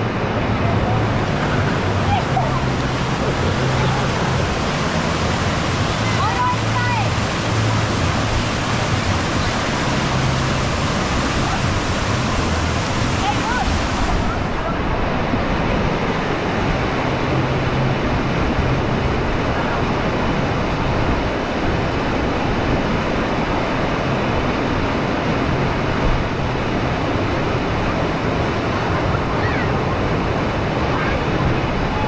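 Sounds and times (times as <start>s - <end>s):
white water rushing: 0.0s - 32.0s.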